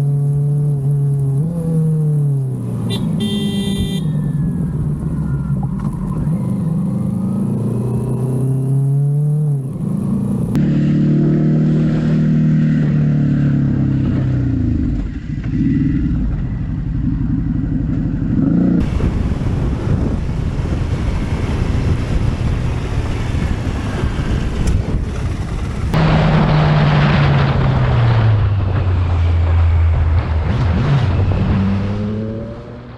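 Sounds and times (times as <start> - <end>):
motorcycle engines accelerating: 0.0 - 32.9.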